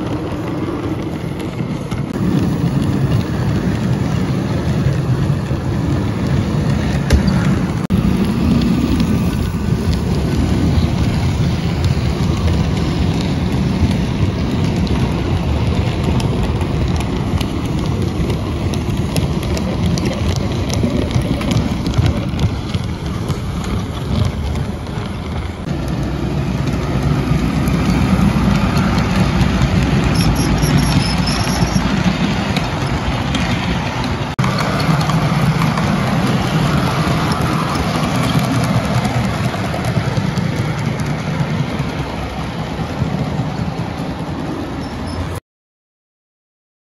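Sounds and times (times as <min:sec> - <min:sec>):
model train wheels rumbling: 0:00.0 - 0:45.3.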